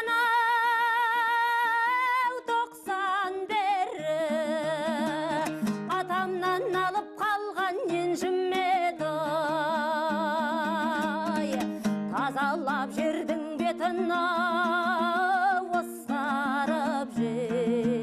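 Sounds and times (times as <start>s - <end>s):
woman singing with vibrato: 0.0s - 18.0s.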